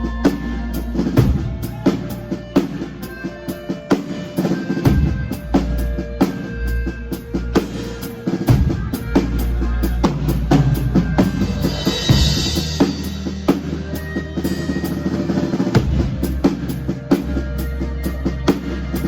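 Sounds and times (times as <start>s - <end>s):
bass line: 0.0s - 19.0s
drum kit beat: 0.0s - 19.0s
held instrument notes: 0.0s - 19.0s.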